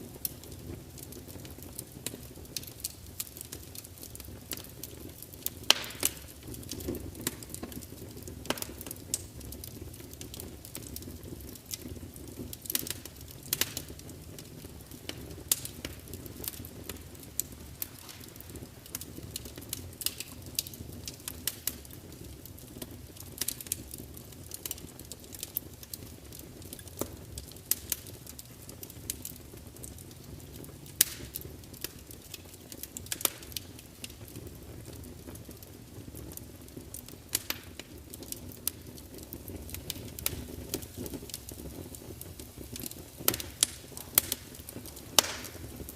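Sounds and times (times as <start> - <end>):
logs crackling and popping: 0.0 - 45.9
low rumble of flames: 0.0 - 45.9.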